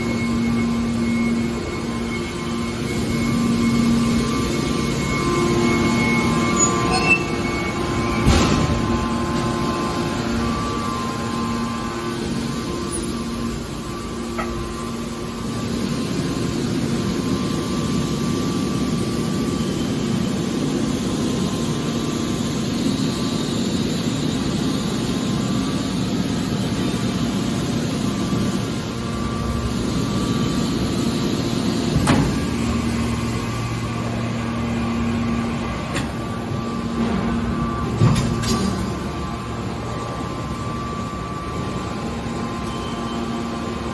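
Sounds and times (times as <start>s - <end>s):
hydraulic machine hum: 0.0s - 43.9s.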